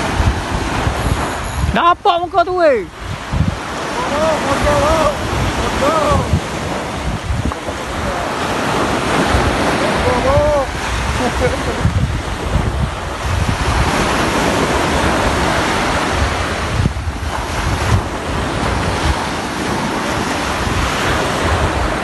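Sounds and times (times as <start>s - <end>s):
waves breaking on shore: 0.0s - 22.0s
wind buffeting microphone: 0.0s - 22.0s.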